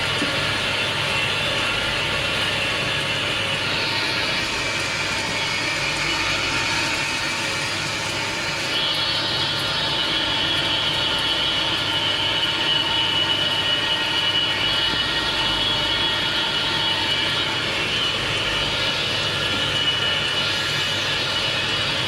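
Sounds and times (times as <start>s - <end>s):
granulator machinery running: 0.0s - 22.0s.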